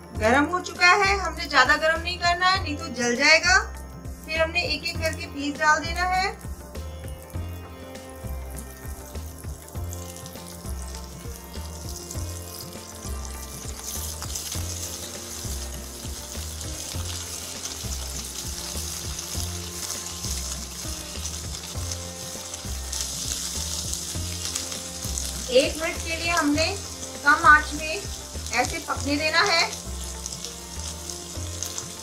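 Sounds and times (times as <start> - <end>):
background music with low beat: 0.0 - 32.0
cheese sizzling in butter: 0.7 - 32.0.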